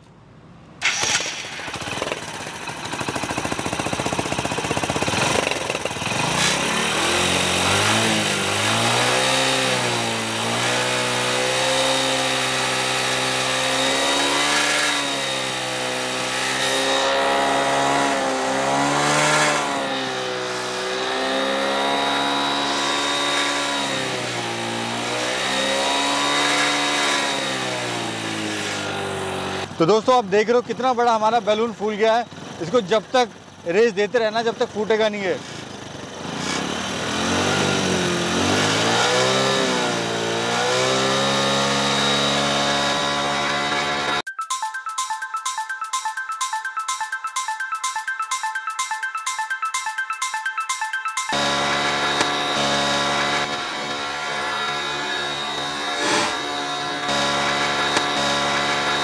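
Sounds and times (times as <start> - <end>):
motorcycle engine idling and revving: 0.8 - 44.3, 51.3 - 59.0.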